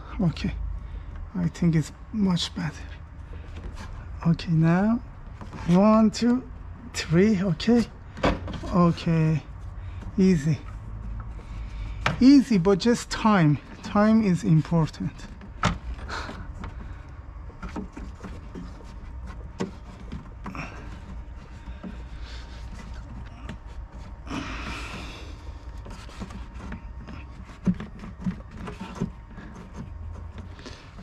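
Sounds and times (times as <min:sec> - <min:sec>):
scraping rustle: 0:02.6 - 0:31.0.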